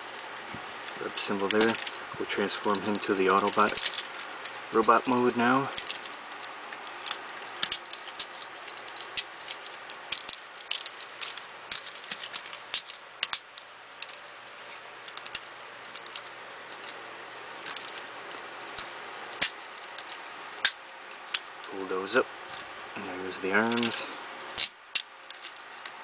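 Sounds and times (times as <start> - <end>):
plastic toy clicks and rattles: 1.3 - 2.0, 2.7 - 17.0, 17.6 - 22.8, 23.6 - 26.0.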